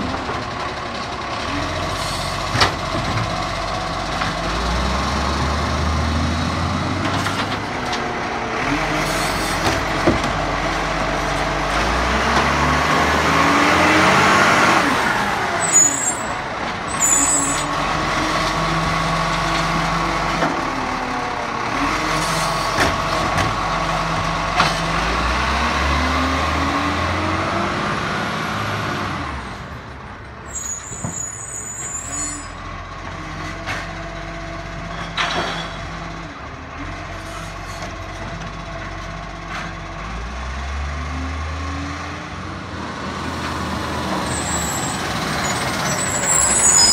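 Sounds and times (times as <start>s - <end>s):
garbage truck engine revving: 1.1s - 30.0s, 32.6s - 46.9s.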